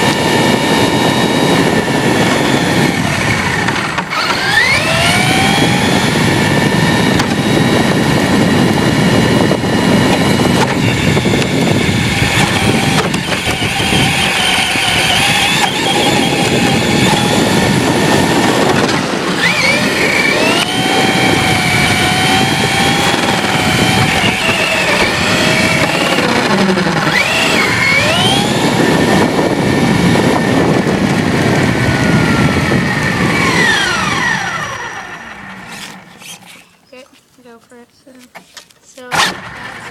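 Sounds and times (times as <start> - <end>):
electric motor whine: 0.0 - 36.8.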